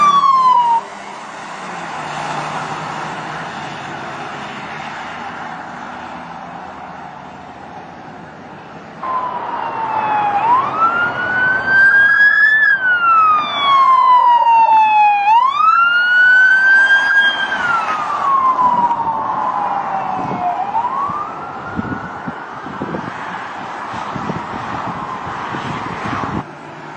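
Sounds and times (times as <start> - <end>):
police siren wailing: 0.0 - 5.6, 9.0 - 26.4
road and vehicle noise: 0.0 - 26.9.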